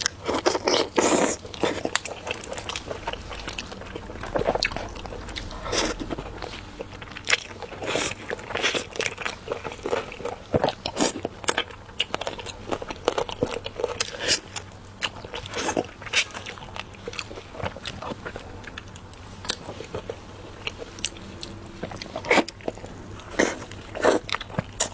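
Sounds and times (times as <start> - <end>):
person chewing crunchy food: 0.0 - 24.9.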